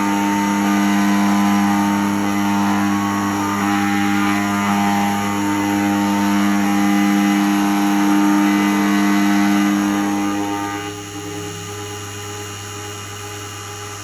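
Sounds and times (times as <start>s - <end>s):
key cutting machine whining: 0.0s - 12.9s.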